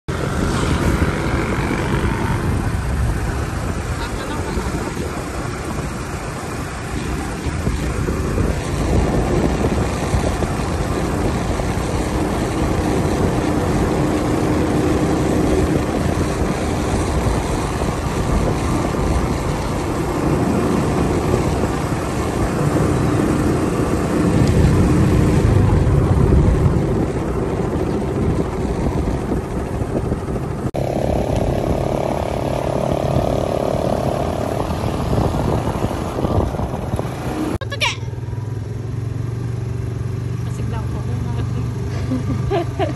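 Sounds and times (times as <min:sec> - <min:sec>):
vehicle engine hum: 0:00.0 - 0:42.9
wind on microphone: 0:00.1 - 0:38.3.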